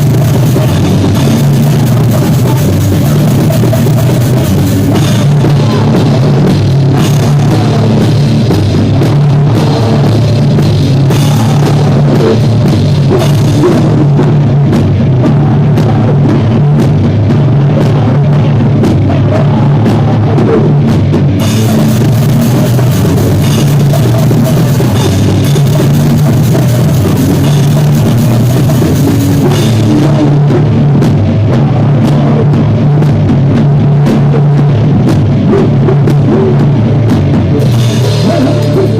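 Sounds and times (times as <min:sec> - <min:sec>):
drum kit beat: 0:00.0 - 0:38.9
rock band playing loud: 0:00.0 - 0:38.9.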